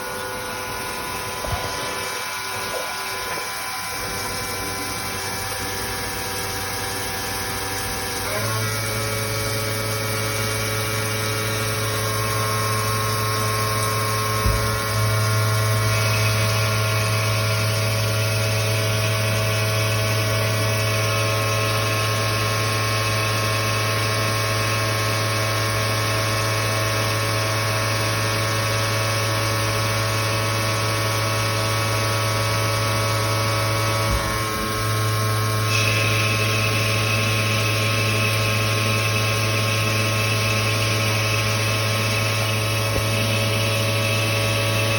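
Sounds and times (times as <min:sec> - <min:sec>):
lathe machine hum with whine: 0:00.0 - 0:44.9.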